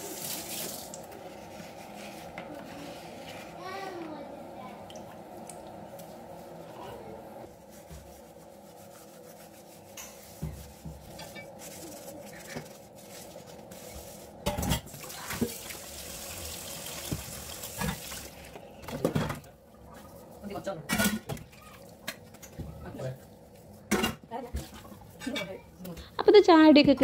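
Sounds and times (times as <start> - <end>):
water running: 0.0 - 1.5, 3.9 - 26.9.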